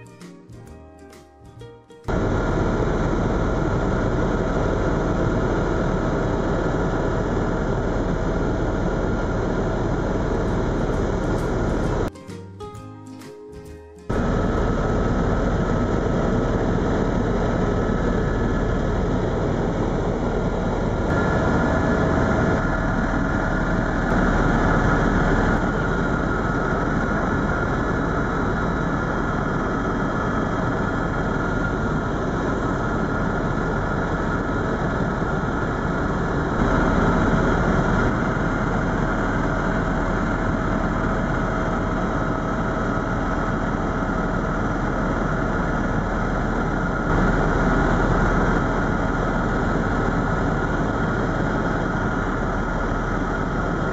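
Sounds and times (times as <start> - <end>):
faint whine: 0.0 - 12.1, 14.1 - 53.9
helicopter drone in cabin: 0.0 - 12.1, 12.8 - 53.9.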